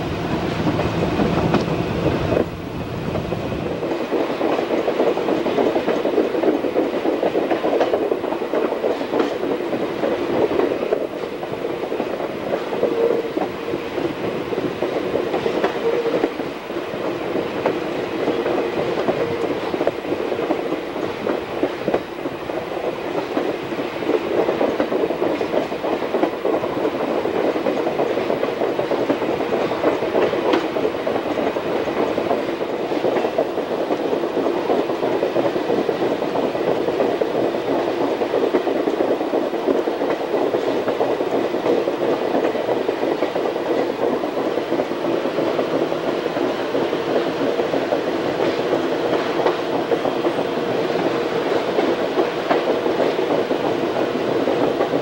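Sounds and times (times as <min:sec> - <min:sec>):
clickety-clack of rail joints: 0:00.0 - 0:55.0
train wheels rolling on rails: 0:00.0 - 0:55.0.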